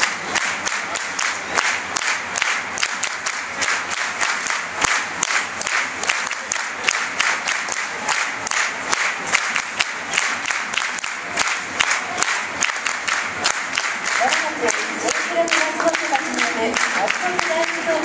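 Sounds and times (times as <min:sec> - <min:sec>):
crowd clapping and cheering: 0:00.0 - 0:18.0.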